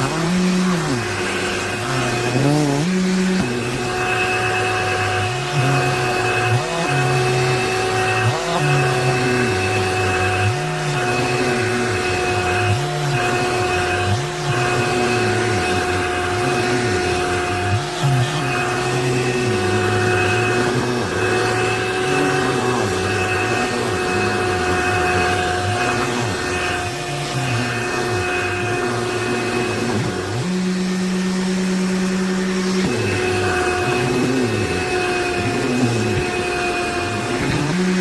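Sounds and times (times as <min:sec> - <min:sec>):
handheld vacuum motor whining: 0:00.0 - 0:38.0.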